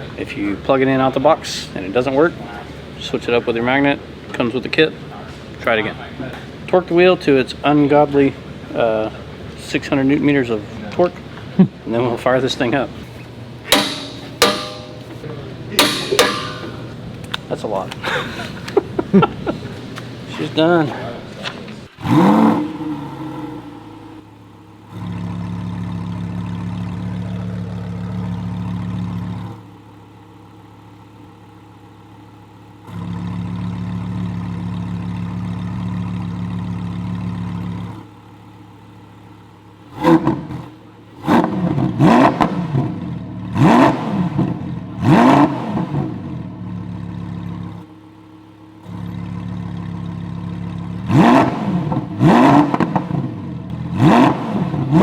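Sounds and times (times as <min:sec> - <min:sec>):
car engine idling: 0:00.0 - 0:43.8, 0:44.4 - 0:55.0
engine throttle blips: 0:00.0 - 0:55.0.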